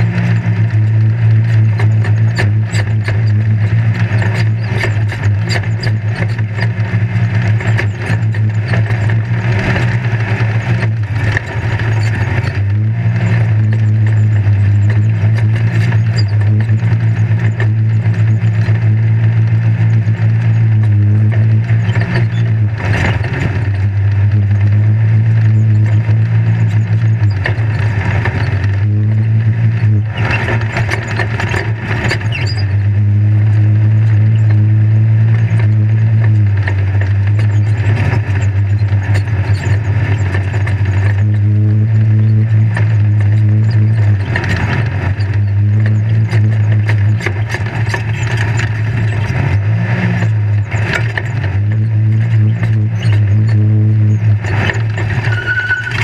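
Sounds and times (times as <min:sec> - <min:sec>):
chassis knocks and rattles: 0:00.0 - 0:56.0
engine droning under load: 0:00.0 - 0:56.0.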